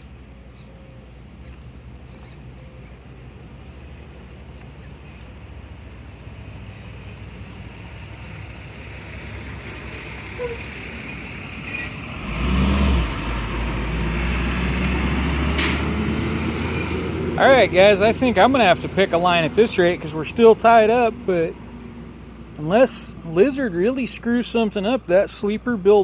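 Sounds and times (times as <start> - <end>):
large engine droning: 0.0 - 26.0.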